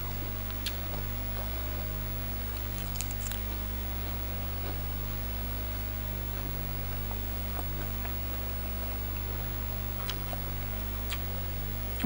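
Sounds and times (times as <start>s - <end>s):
low mains hum: 0.0s - 12.0s
soft chewing clicks: 0.4s - 5.0s, 6.1s - 12.0s.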